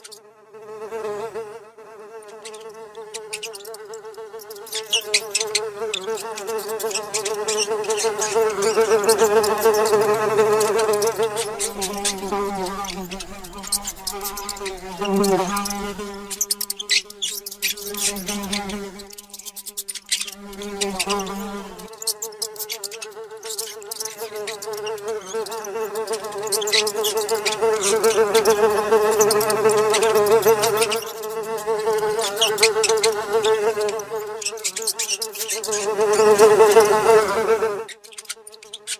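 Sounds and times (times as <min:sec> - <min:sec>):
fly buzzing: 0:00.0 - 0:38.9.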